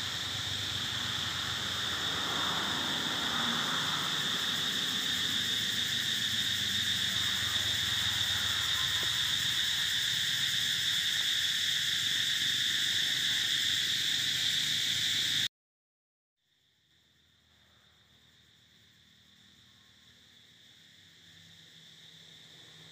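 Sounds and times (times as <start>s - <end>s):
faint insect buzz: 0.0s - 15.5s, 16.5s - 22.9s
loud insect chorus drone: 0.0s - 15.5s, 16.5s - 22.9s.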